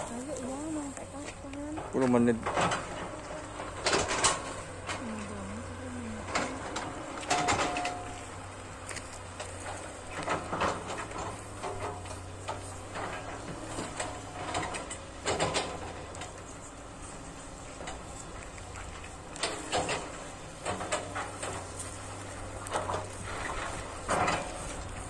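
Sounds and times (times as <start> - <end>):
excavator engine drone: 0.0 - 25.0
metallic clanks and squeaks: 0.0 - 25.0.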